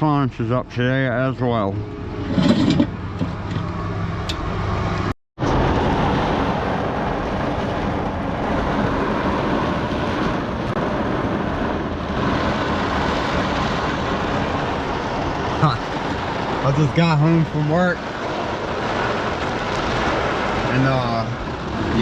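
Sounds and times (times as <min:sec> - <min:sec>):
heavy rain and wind on a truck: 0:00.0 - 0:22.0.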